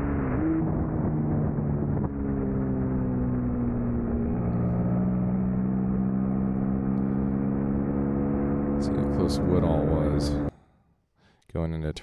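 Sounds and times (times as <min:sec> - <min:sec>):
motorcycle engine under load: 0:00.0 - 0:10.5.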